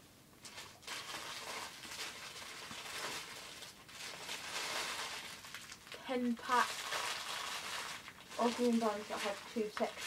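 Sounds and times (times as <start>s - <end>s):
plastic packets rustling: 0.4s - 10.0s.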